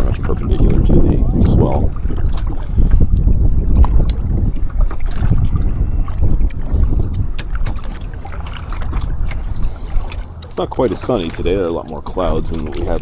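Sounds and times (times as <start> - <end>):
water knocking against hull: 0.0 - 13.0
waves slapping against kayak: 0.0 - 13.0
wind buffeting microphone: 0.0 - 13.0.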